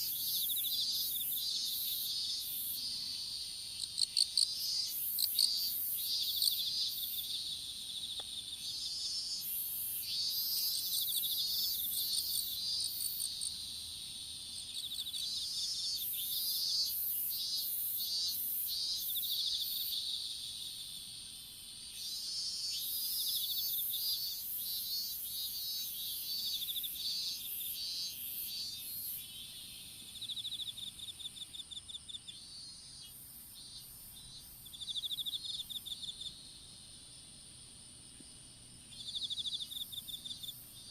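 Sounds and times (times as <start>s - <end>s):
crickets chirping and trilling: 0.0s - 40.9s
high insect drone: 0.0s - 40.9s.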